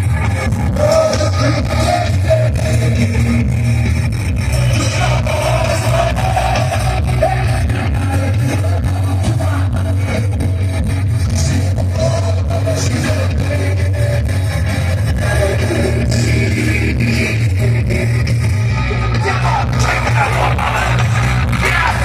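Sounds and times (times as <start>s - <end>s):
live heavy metal band: 0.0s - 22.0s.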